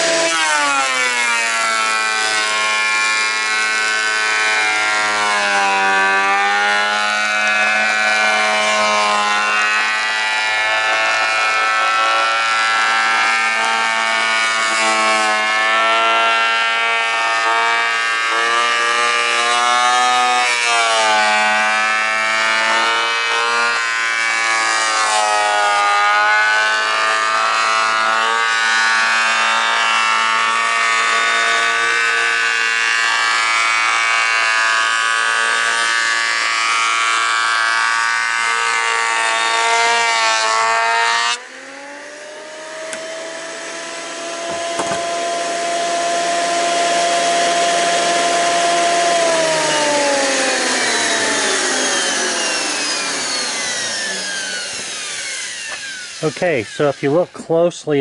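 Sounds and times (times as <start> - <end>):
thickness planer cutting board: 0.0 - 57.7.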